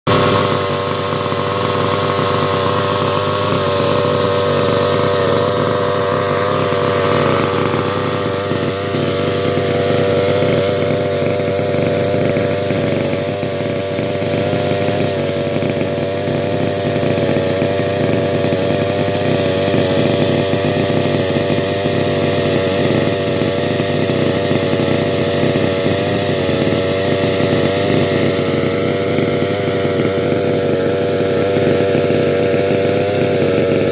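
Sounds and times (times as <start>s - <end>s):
model car engine running: 0.1s - 33.9s.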